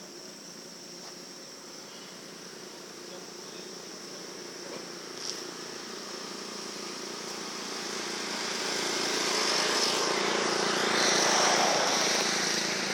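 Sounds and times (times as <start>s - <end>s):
insects chirring: 0.0s - 12.9s
vehicle engine and road noise: 0.0s - 12.9s.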